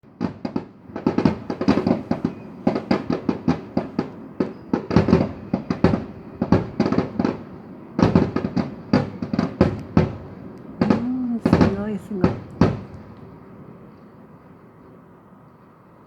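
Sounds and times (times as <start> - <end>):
fireworks bangs and crackles: 0.0 - 13.5.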